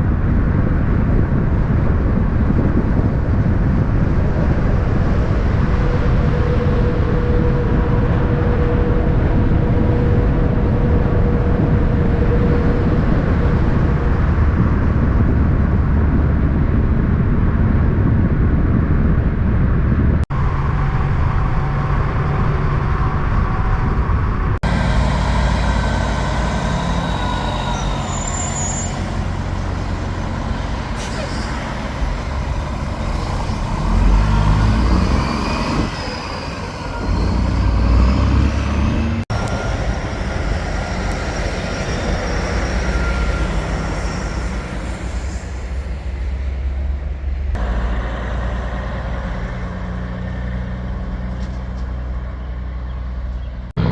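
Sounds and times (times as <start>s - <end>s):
diesel truck engines running: 0.0s - 53.9s.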